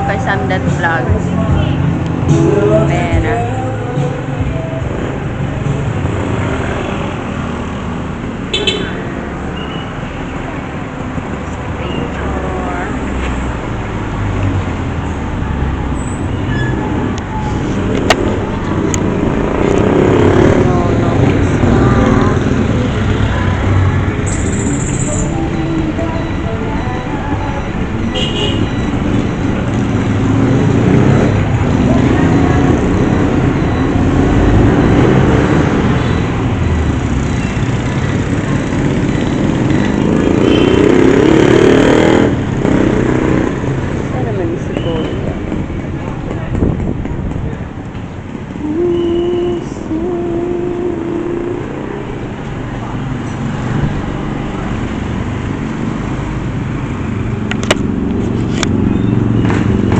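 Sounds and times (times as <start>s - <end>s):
vehicle running with road noise: 0.0s - 59.9s.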